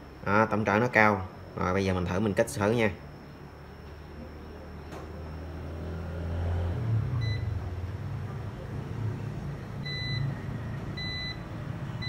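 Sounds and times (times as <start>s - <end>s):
low steady hum: 0.0s - 12.0s
multimeter electronic beeps: 0.0s - 12.0s.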